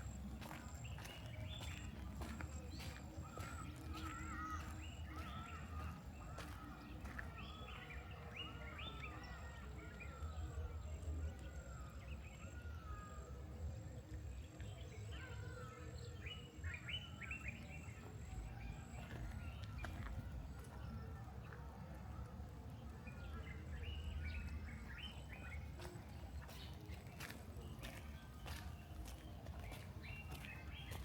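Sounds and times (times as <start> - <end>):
forest birds chirping: 0.0 - 31.0.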